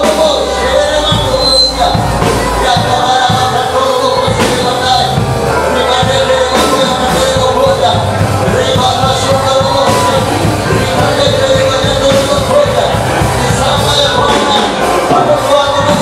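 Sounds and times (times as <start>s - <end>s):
congregation singing: 0.0s - 16.0s
man singing: 0.0s - 16.0s
worship music with steady beat: 0.0s - 16.0s.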